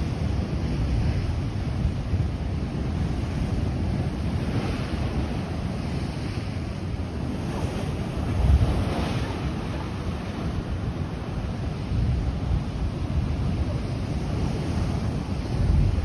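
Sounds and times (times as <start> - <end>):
ocean surf rushing over rocks: 0.0 - 16.0
wind buffeting microphone: 0.0 - 16.0.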